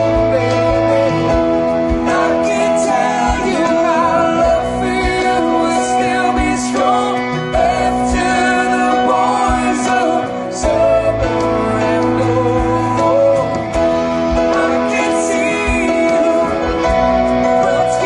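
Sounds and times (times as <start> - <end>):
electric guitar: 0.0 - 18.0
stage piano: 0.0 - 18.0
sustained lead melody: 0.0 - 18.0.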